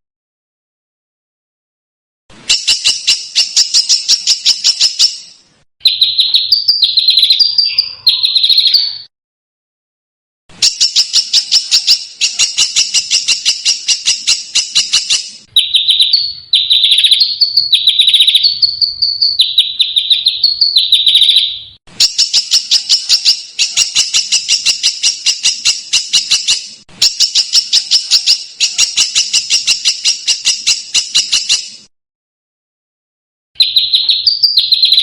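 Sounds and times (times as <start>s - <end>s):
recorded songbird song: 2.3s - 9.1s, 10.5s - 31.9s, 33.6s - 35.0s.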